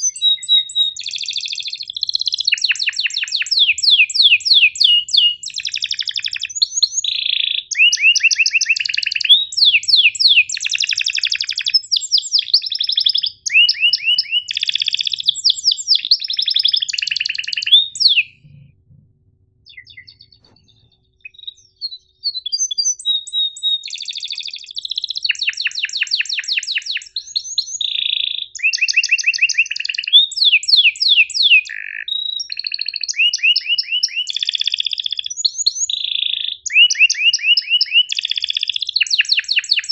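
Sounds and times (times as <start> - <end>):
canary singing trills and chirps: 0.0 - 18.7, 19.6 - 39.9.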